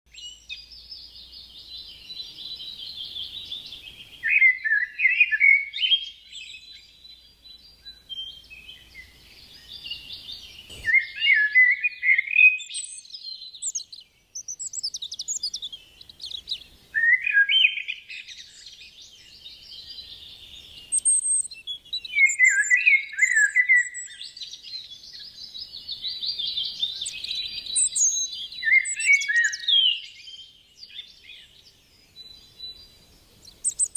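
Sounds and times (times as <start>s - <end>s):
songbird trilling and warbling: 0.1s - 33.9s.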